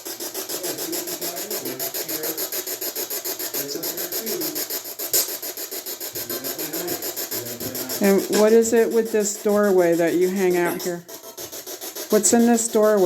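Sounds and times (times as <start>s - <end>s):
fast pulsing electronic hiss: 0.0s - 13.0s.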